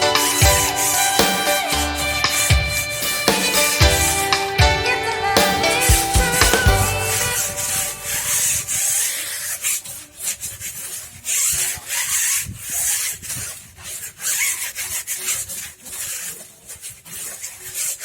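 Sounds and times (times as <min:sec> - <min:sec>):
hand tool rasping: 0:00.0 - 0:18.0.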